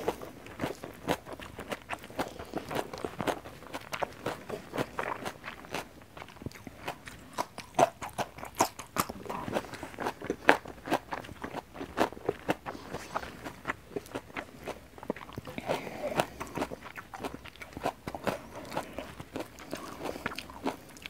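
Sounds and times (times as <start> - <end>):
chewing with wet smacks: 0.0 - 21.0.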